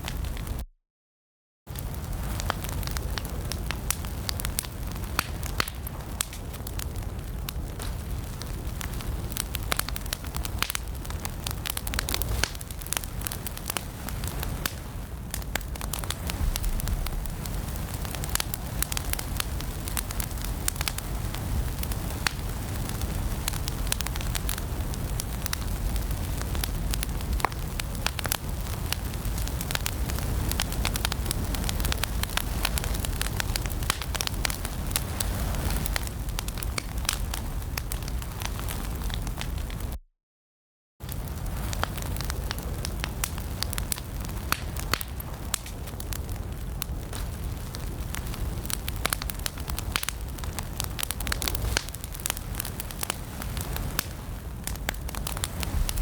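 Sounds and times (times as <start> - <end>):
low rush of flames: 0.0 - 0.6, 1.7 - 40.0, 41.0 - 56.0
wood fire crackling and popping: 0.0 - 0.6, 1.7 - 40.0, 41.0 - 56.0.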